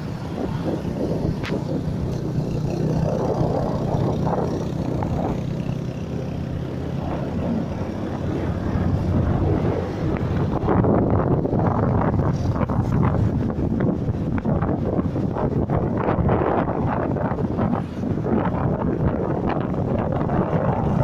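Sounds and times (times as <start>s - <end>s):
motorbike engine hum: 0.0s - 21.0s
wind noise on microphone: 0.0s - 21.0s.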